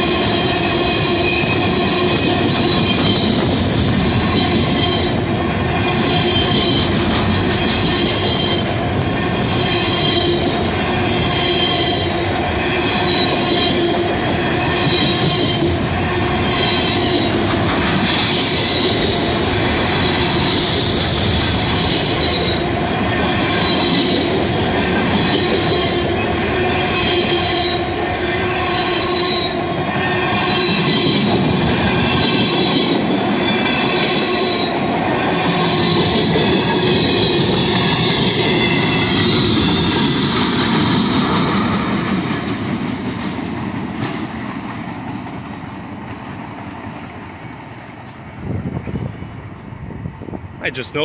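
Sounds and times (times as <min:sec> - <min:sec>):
freight cars rumbling on rails: 0:00.0 - 0:51.0.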